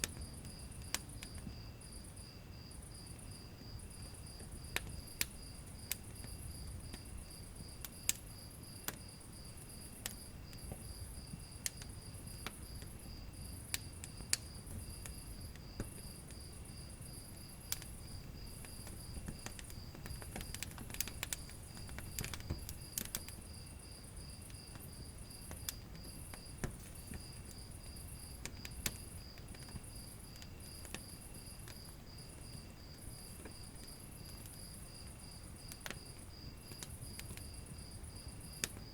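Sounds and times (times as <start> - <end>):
crickets chirping: 0.0 - 38.9
wood fire crackling and popping: 0.0 - 38.9.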